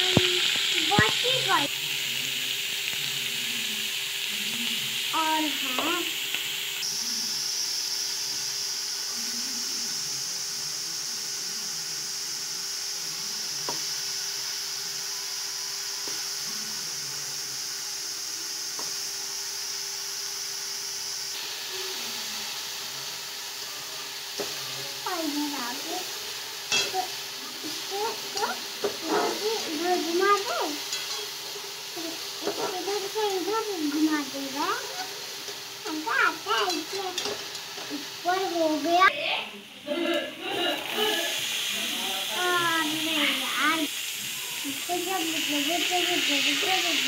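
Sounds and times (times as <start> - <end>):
onion sizzling in hot oil: 0.0 - 47.0.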